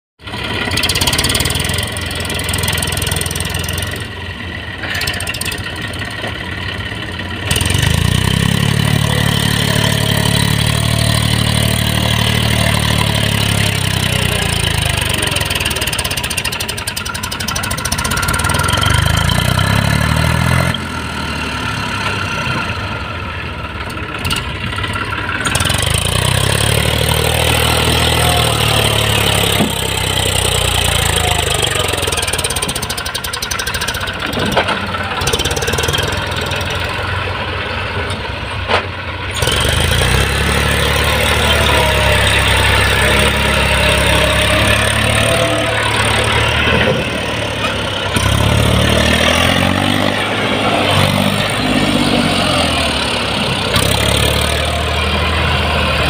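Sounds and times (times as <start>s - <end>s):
tractor diesel engine labouring: 0.2s - 56.0s.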